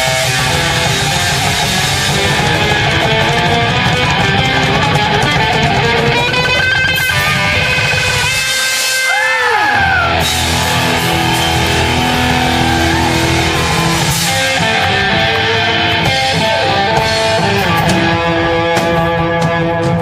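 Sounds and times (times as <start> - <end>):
electric guitar bending notes: 0.0 - 20.0
live rock band playing: 0.0 - 20.0.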